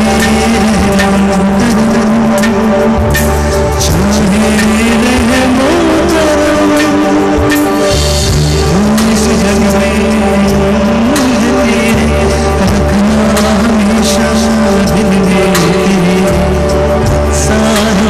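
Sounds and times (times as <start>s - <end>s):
amplified backing music: 0.0s - 18.0s
man singing into microphone: 0.0s - 18.0s.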